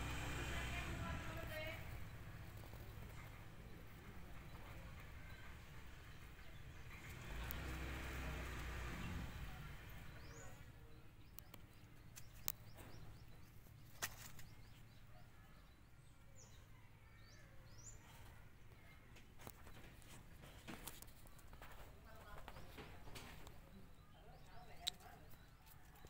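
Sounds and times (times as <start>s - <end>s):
faint garden ambience: 0.0s - 26.0s.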